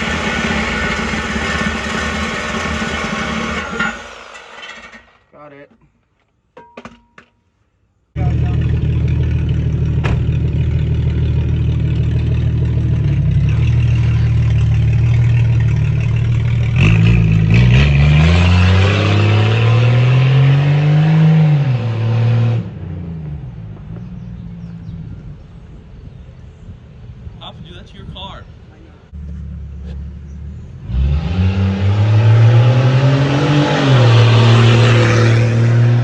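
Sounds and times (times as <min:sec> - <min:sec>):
engine idling and revving: 0:00.0 - 0:05.2, 0:08.2 - 0:25.7, 0:29.1 - 0:36.0.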